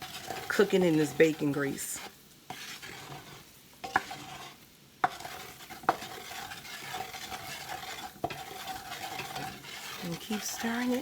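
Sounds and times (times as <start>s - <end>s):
roux sizzling in a pot: 0.0s - 11.0s
utensil scraping pot: 0.0s - 11.0s.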